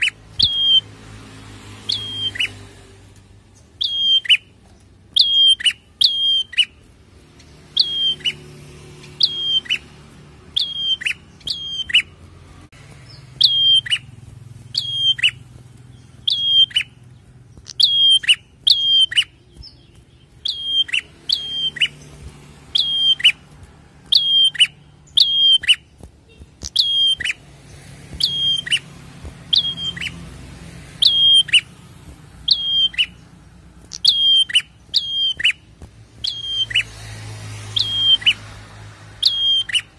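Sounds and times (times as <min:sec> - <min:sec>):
bird high chip notes: 0:03.6 - 0:27.6, 0:28.2 - 0:36.9.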